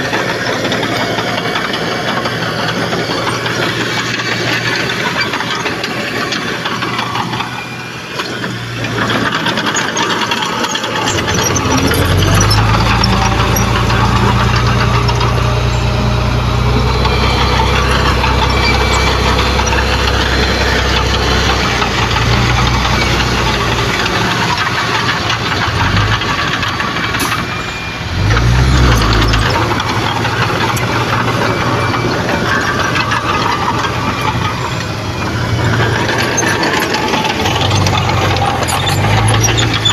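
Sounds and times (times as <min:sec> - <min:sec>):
heavy diesel engine under load: 0:00.0 - 0:39.9
rough mechanical clatter: 0:00.0 - 0:39.9.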